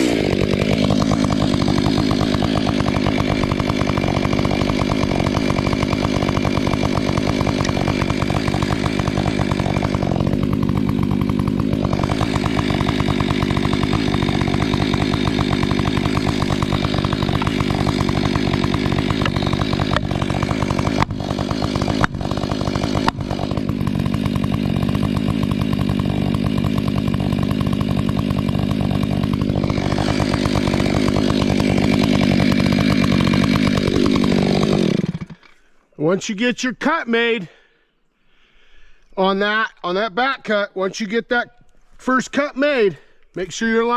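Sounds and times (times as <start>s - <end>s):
chainsaw cutting wood: 0.0s - 35.7s.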